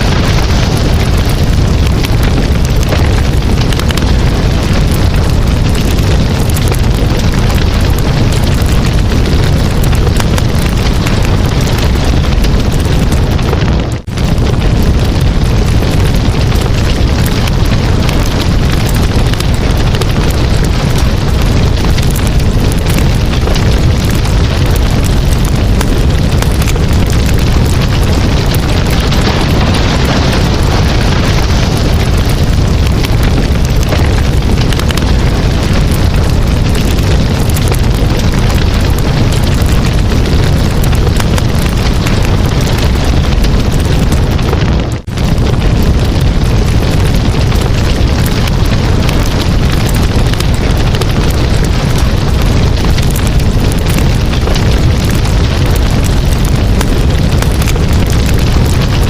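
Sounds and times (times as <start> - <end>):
campfire flames rushing: 0.0 - 59.0
fire crackling and popping: 0.0 - 59.0.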